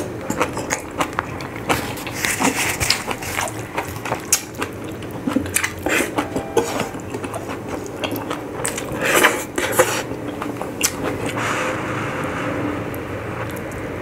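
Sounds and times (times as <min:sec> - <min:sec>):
man chewing and lip smacking: 0:00.0 - 0:11.4.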